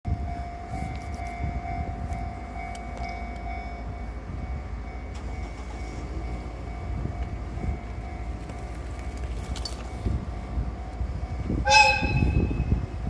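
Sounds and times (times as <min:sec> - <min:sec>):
level crossing warning bell: 0:00.1 - 0:13.0
train rumbling: 0:00.1 - 0:13.0.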